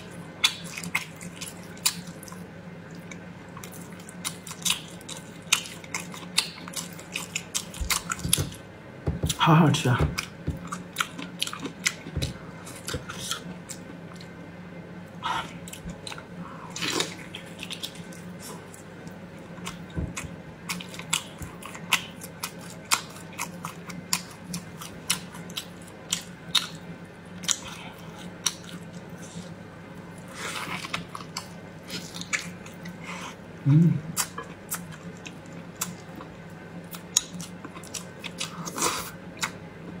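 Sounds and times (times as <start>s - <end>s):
person chewing with wet smacks: 0.0s - 8.6s, 10.1s - 14.3s, 15.4s - 26.8s, 27.4s - 33.1s, 34.0s - 40.0s
faint low hum: 0.0s - 40.0s.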